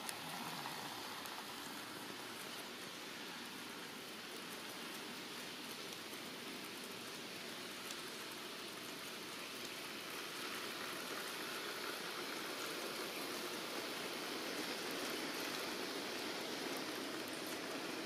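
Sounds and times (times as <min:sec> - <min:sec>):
model train wheels on rails: 0:00.0 - 0:18.0.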